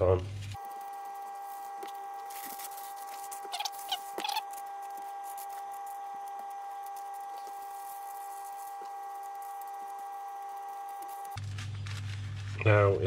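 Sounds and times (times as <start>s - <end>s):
steady whine of fixed tones: 0.0s - 13.0s
handling noises: 0.4s - 12.7s.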